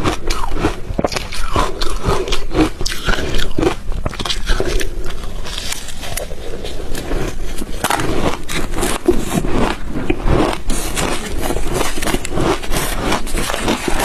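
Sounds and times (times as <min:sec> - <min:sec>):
ice being crunched and chewed: 0:00.0 - 0:14.0.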